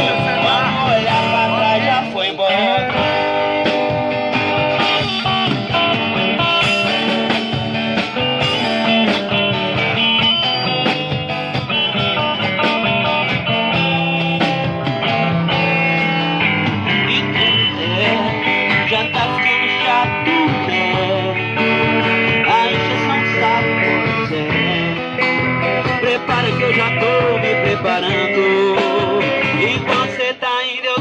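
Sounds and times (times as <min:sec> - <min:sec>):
guitar: 0:00.0 - 0:31.0
live band playing: 0:00.0 - 0:31.0.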